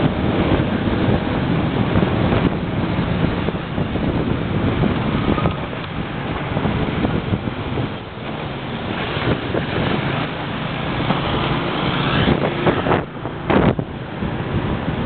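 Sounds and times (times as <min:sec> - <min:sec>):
motorbike engine: 0:00.0 - 0:15.0
surrounding traffic: 0:00.0 - 0:15.0
wind rushing over microphone: 0:00.0 - 0:15.0.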